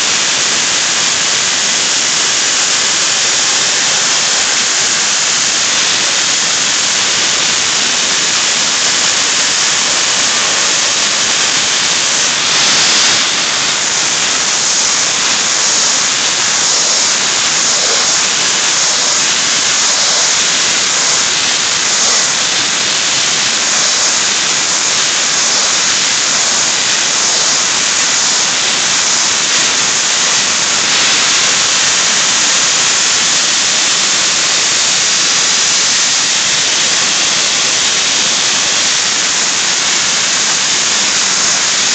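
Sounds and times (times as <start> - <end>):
blasting nozzle hissing: 0.0 - 41.9.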